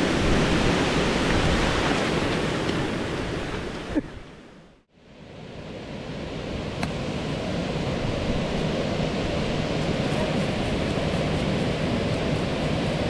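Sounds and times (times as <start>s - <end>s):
river water rushing: 0.0s - 3.9s, 5.2s - 13.0s
wind: 0.0s - 13.0s.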